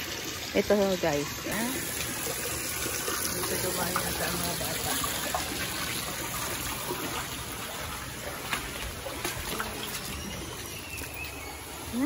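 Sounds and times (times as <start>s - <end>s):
trickling water: 0.0s - 12.0s.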